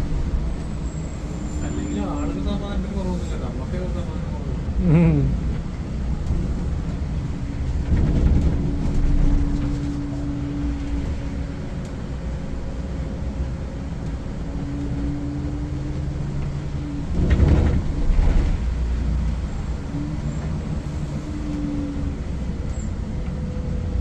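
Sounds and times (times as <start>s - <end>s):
coach diesel engine hum: 0.0s - 24.0s.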